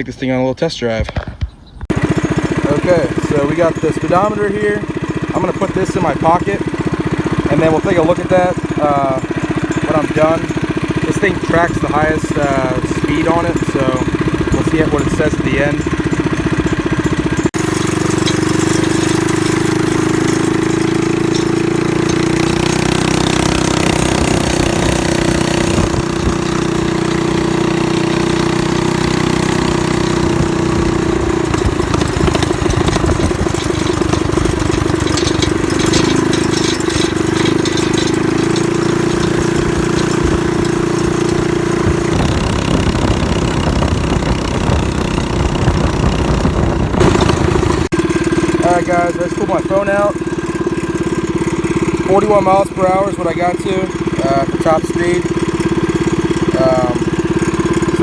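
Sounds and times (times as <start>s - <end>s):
mini bike engine running: 1.9s - 58.0s.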